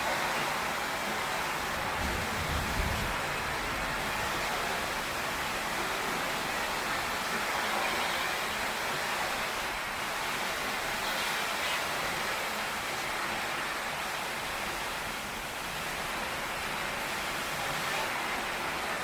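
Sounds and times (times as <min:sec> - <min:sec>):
heavy rain on a tin roof: 0:00.0 - 0:19.0.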